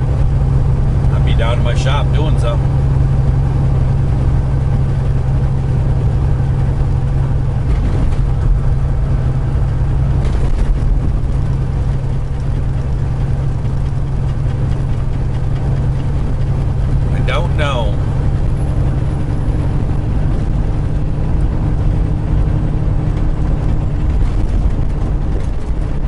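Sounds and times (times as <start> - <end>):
road noise: 0.0 - 26.0
truck diesel engine droning: 0.0 - 26.0.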